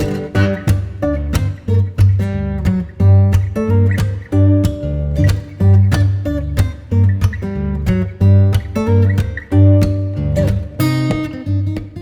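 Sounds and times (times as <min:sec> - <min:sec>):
afrobeat instrumental music: 0:00.0 - 0:12.0.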